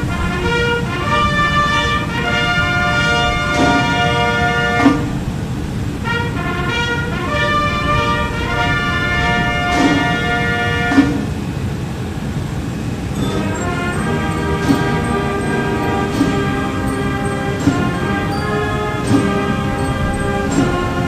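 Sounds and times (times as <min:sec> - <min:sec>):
brass band playing anthem: 0:00.0 - 0:05.3, 0:05.9 - 0:11.4, 0:13.2 - 0:21.0.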